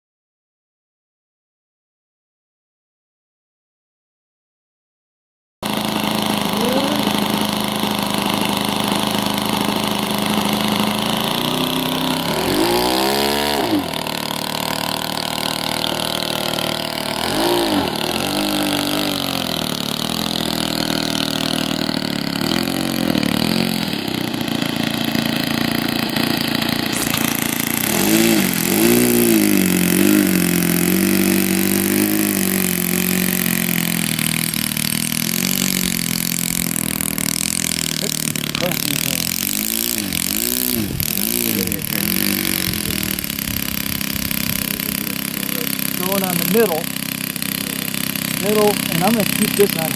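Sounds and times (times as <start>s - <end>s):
model aircraft engine revving: 5.6s - 49.9s.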